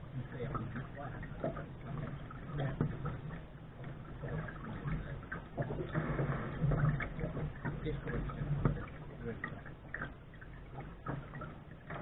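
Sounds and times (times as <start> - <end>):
water splashing against boat bow: 0.0 - 12.0.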